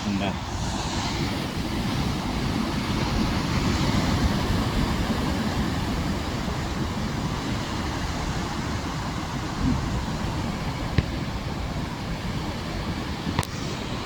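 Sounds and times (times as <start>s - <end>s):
surf breaking against cliffs: 0.0s - 14.0s
wind buffeting microphone: 0.0s - 14.0s.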